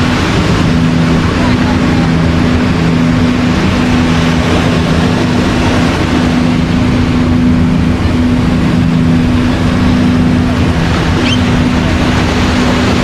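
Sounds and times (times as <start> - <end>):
low hum: 0.0 - 13.0
ocean surf: 0.0 - 13.0
wind noise: 0.0 - 13.0.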